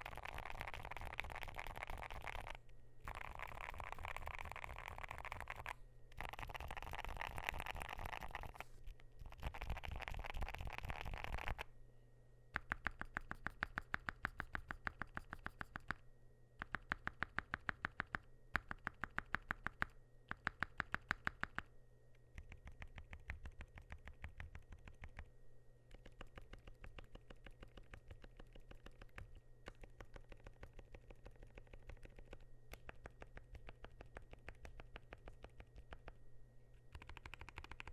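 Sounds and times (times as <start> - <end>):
typing on mechanical keyboard: 0.0 - 11.7, 12.6 - 16.0, 16.6 - 25.3, 25.9 - 36.1, 36.9 - 37.9.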